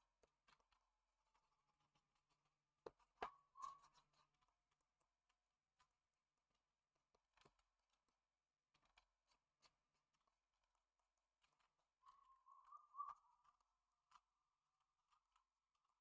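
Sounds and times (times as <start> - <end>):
faint scattered clicks: 0.0 - 16.0
soft scratching: 0.0 - 16.0.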